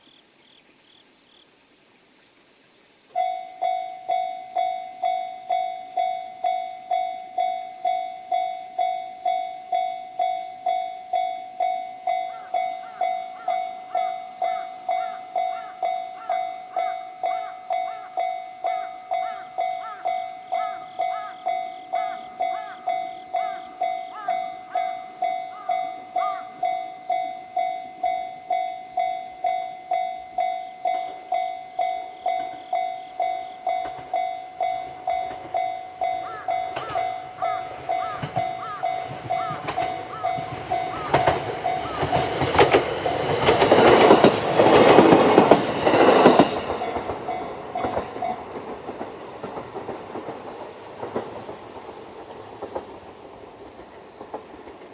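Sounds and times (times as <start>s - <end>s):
level crossing warning bell: 3.2s - 49.7s
train wheels clicking over rail joints: 4.6s - 54.9s.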